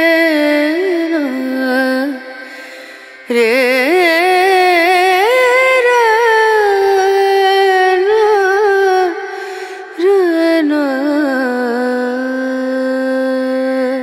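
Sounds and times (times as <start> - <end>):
high voice singing devotional song: 0.0 - 14.0.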